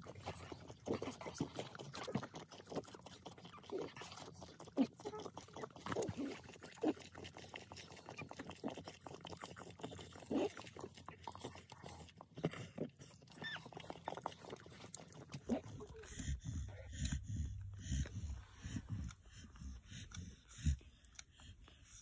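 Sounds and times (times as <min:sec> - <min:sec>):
puppies whining and grunting: 0:00.0 - 0:22.0.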